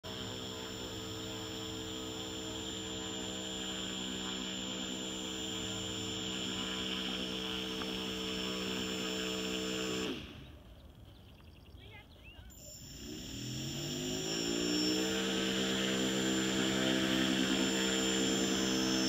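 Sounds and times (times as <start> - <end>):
electric thruster motors humming: 0.0 - 11.1, 12.6 - 19.0.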